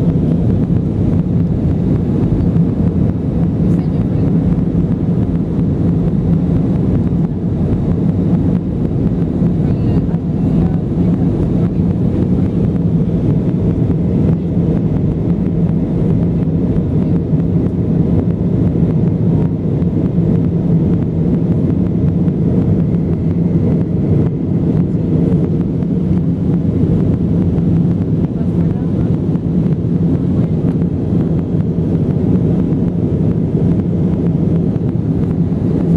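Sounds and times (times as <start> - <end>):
airplane engines droning: 0.0 - 35.9.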